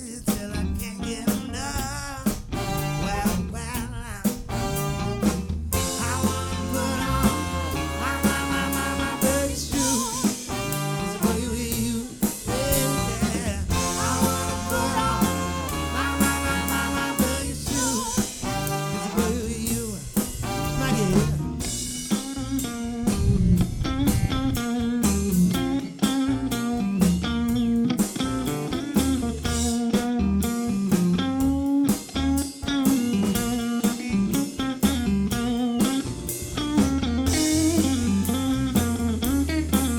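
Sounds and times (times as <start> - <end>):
bass: 0.0 - 39.9
drum kit: 0.0 - 39.9
electric guitar: 0.0 - 39.9.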